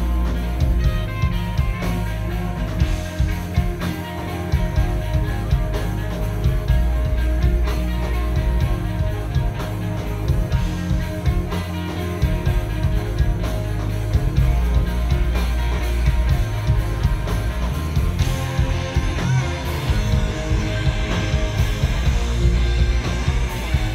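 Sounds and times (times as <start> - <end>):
drums: 0.0 - 23.9
electric guitars: 0.0 - 23.9.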